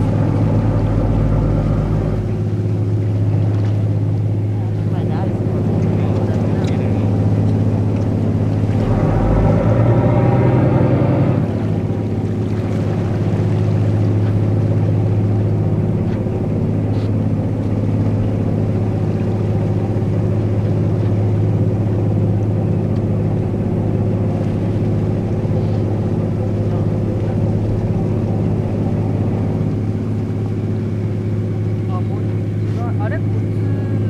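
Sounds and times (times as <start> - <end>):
churning ship wake: 0.0 - 34.0
ship engines droning: 0.0 - 34.0.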